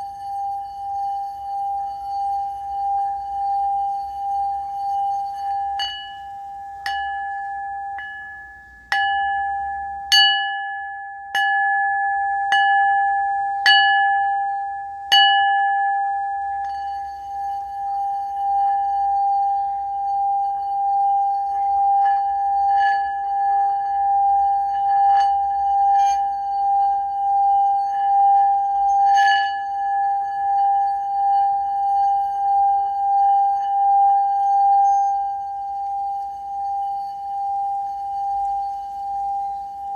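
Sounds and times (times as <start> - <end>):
singing bowl rim tone: 0.0 - 39.9
singing bowl struck: 0.0 - 39.9.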